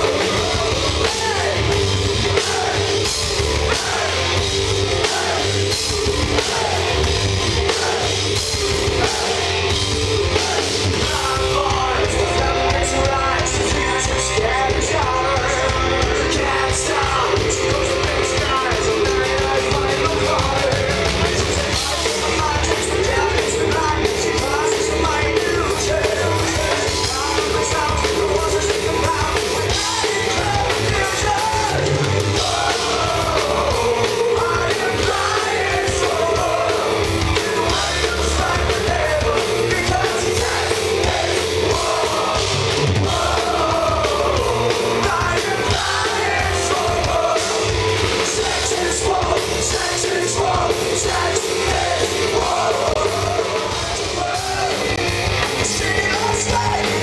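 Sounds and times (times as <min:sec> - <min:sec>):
male singer: 0:00.0 - 0:02.9, 0:10.3 - 0:57.0
heavy metal band playing: 0:00.0 - 0:57.0.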